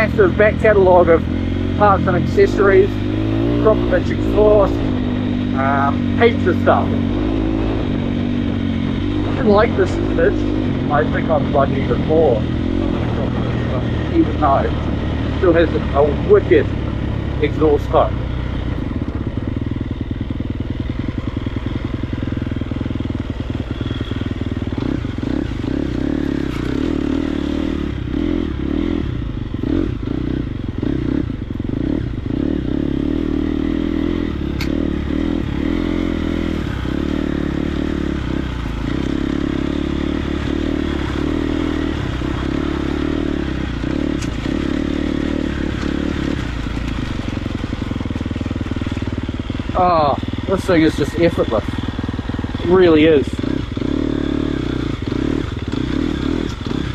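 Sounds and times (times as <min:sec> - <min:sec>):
motocross engine revving: 0:00.0 - 0:56.9.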